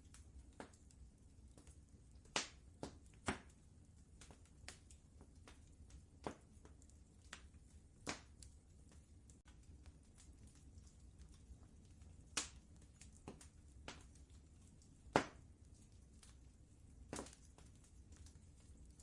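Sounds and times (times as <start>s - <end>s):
faint low rumble: 0.0s - 19.0s
wood fire snapping and popping: 0.0s - 19.0s.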